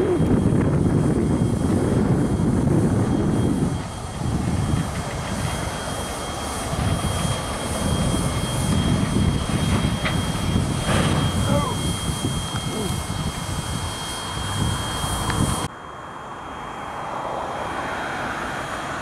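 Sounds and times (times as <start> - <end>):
wind buffeting microphone: 0.0 - 15.7
faint high whine: 0.0 - 19.0.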